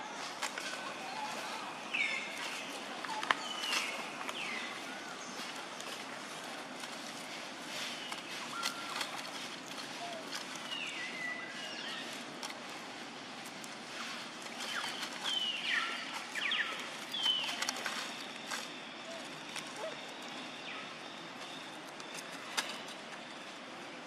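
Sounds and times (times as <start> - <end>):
leaves and stems rustling: 0.0 - 24.0.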